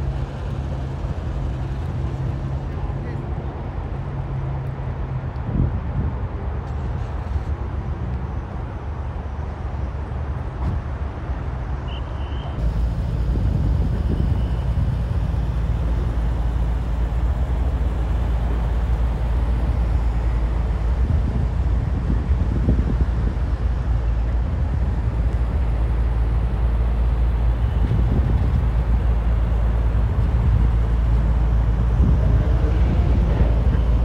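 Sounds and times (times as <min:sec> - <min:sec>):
car engines and traffic rumble: 0:00.0 - 0:34.0.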